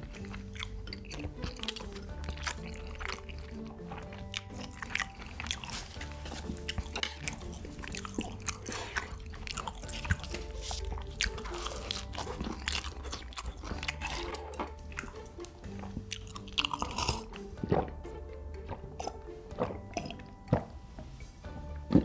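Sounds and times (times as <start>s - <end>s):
mouth clicks: 0.0s - 20.7s
background music with held notes: 0.0s - 22.0s
chewing with crisp crunches: 0.0s - 22.0s.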